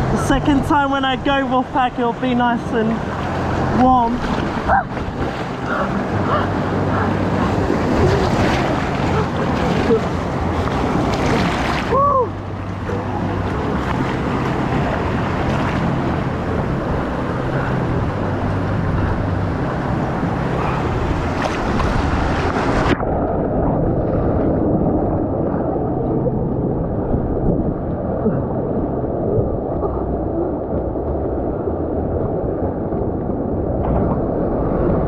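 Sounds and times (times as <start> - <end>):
water rushing and splashing: 0.0 - 35.0.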